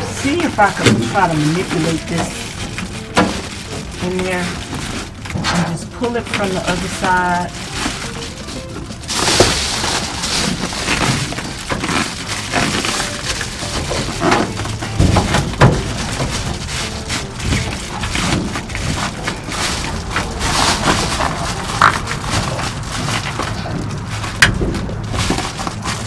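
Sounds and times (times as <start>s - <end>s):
foil insulation crinkling: 0.0s - 26.0s.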